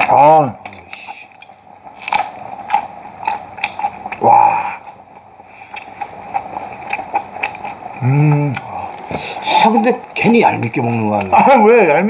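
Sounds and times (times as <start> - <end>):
crunching chili pepper chewing: 0.0 - 11.4.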